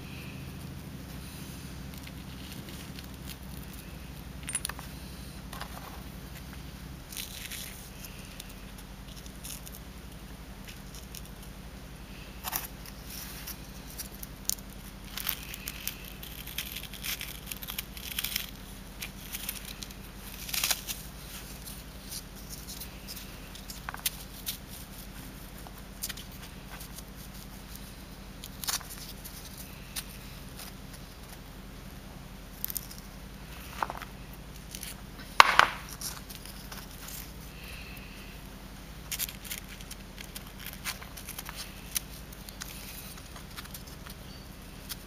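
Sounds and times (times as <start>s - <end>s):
low hum: 0.0s - 45.0s
mould crackling and crumbling: 0.1s - 45.0s.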